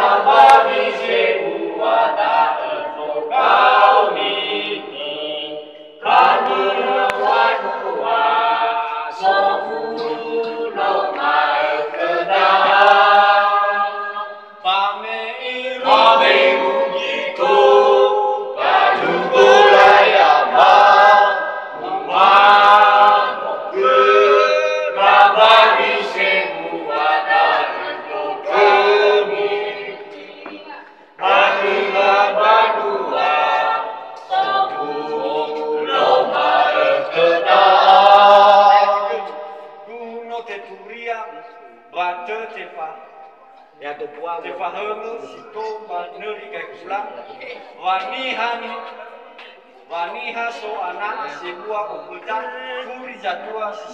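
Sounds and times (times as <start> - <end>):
group singing unaccompanied: 0.0 - 53.9.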